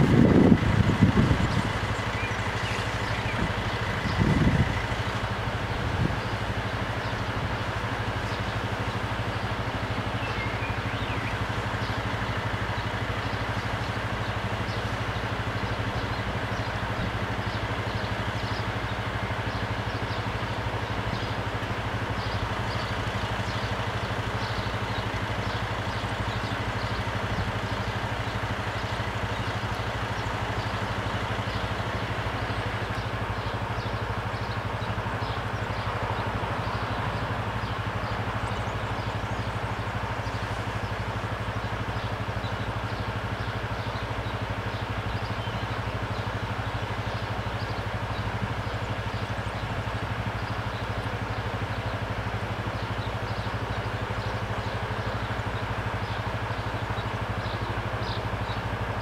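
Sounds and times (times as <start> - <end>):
car and motorcycle engines idling: 0.0 - 59.0.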